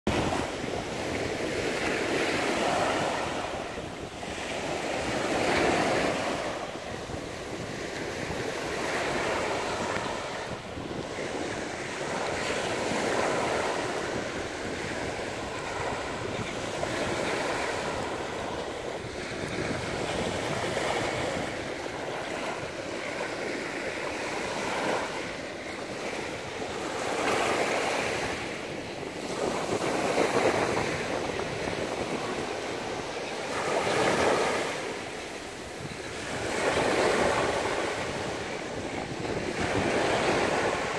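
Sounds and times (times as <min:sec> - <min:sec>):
sea waves breaking on shore: 0:00.1 - 0:40.9.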